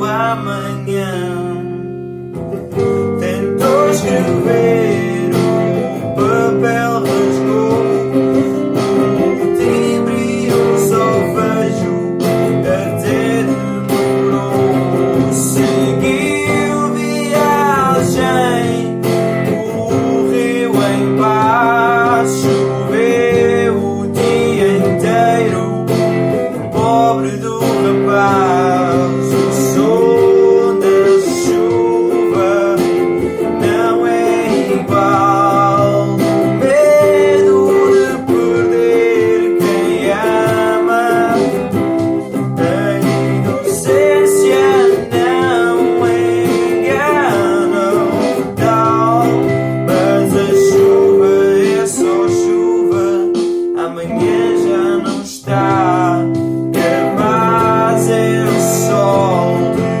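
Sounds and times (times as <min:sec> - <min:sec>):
acoustic guitar music: 0:00.0 - 1:00.0.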